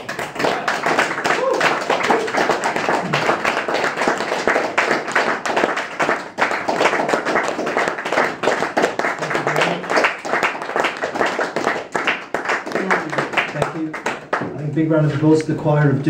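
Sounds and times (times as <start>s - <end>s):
audience clapping: 0.0s - 16.0s.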